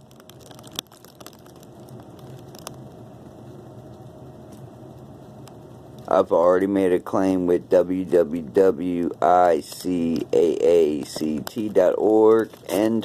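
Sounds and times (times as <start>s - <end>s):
faint clicks and crackles: 0.0s - 13.0s
low steady hum: 0.0s - 13.0s.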